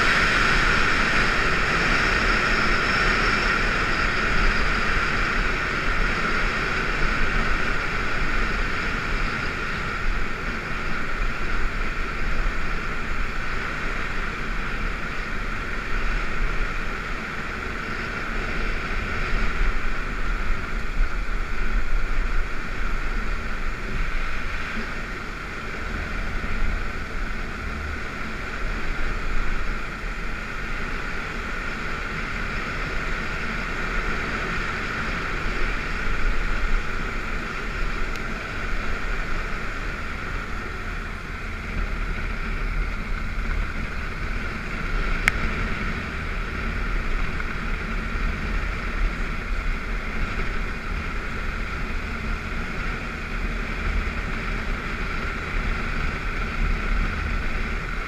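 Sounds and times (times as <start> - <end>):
motorcycle engine running: 0.0 - 58.0
wind rushing on microphone: 0.0 - 58.0.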